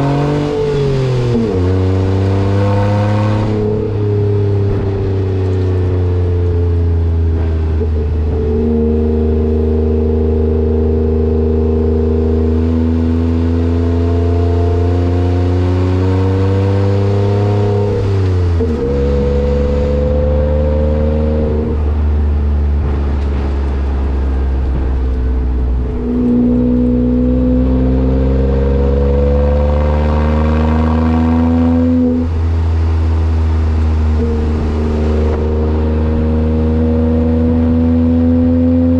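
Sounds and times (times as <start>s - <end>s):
small truck engine revving: 0.0s - 38.9s.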